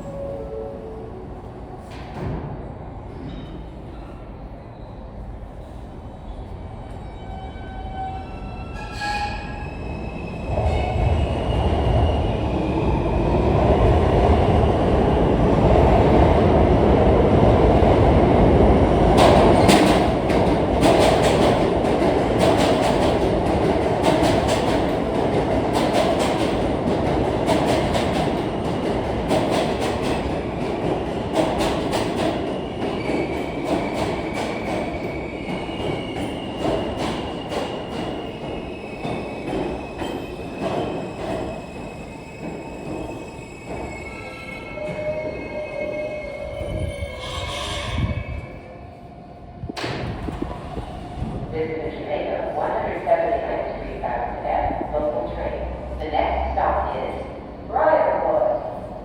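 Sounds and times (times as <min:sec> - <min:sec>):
subway train rumble: 0:00.0 - 0:59.0.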